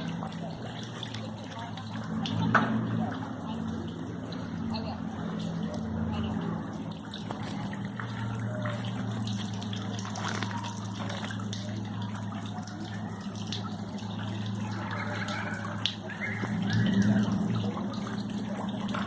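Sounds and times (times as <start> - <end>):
floodwater rushing in street: 0.0 - 19.0.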